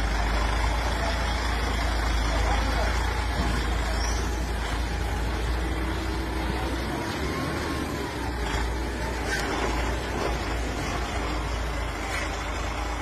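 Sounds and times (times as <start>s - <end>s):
lorry diesel engine rumbling: 0.0s - 13.0s.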